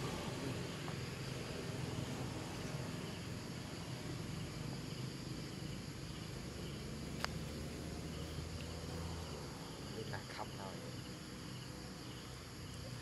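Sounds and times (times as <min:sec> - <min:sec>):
faint insect chirring: 0:00.0 - 0:13.0.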